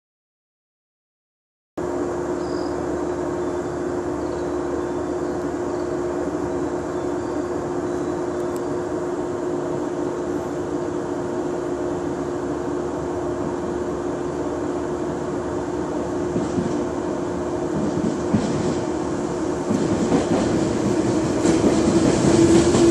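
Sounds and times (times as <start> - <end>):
constant tone from train equipment: 1.8 - 22.9
electric train humming: 1.8 - 22.9.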